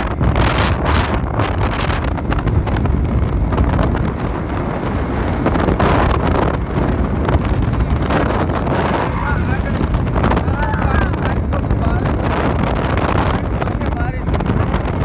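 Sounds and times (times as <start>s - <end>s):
vehicle running noise: 0.0s - 15.0s
wind buffeting microphone: 0.0s - 15.0s.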